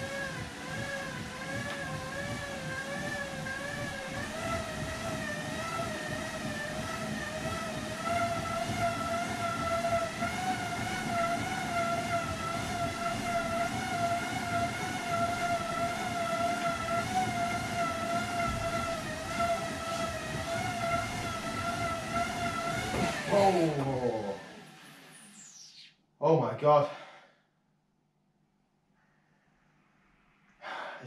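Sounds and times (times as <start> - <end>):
bike tyres whining on rollers: 0.0 - 25.5.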